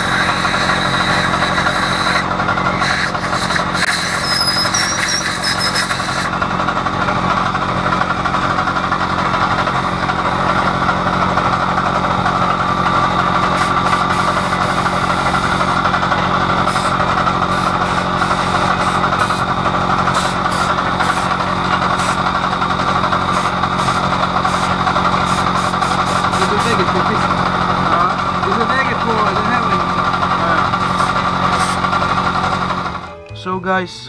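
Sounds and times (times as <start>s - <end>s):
machine motor humming: 0.0s - 33.1s.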